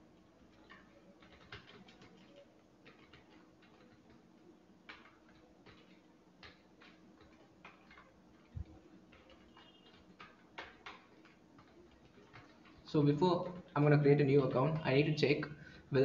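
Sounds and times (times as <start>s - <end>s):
keyboard typing: 0.0s - 15.9s.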